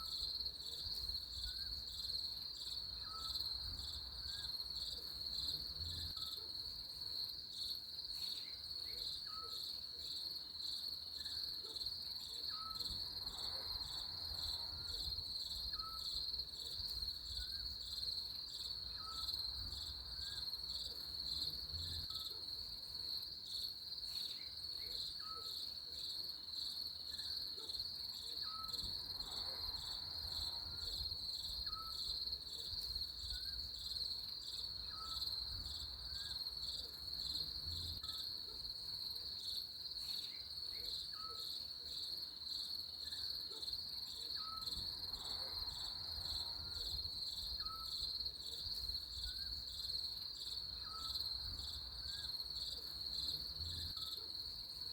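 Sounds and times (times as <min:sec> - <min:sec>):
crickets chirping: 0:00.0 - 0:54.9.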